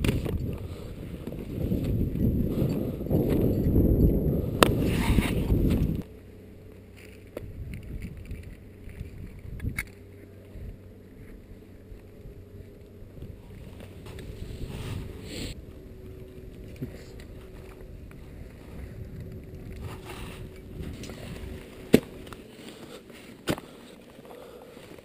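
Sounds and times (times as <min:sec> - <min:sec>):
climbing gear clicking on rock: 0:00.0 - 0:06.1, 0:06.9 - 0:14.4, 0:16.1 - 0:25.0
wind rumble on microphone: 0:00.0 - 0:06.1, 0:07.2 - 0:22.4.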